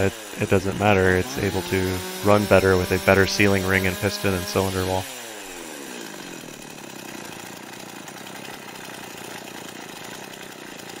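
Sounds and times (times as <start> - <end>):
chainsaw idling: 0.0 - 11.0.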